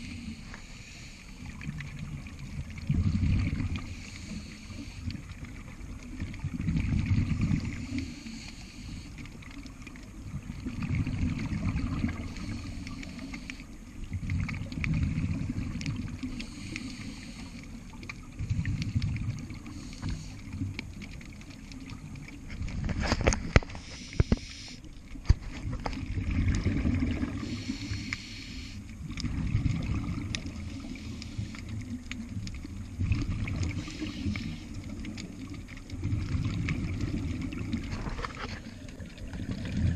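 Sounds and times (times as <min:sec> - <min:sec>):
underwater exhaust bubbles rumbling: 0:00.0 - 0:39.9.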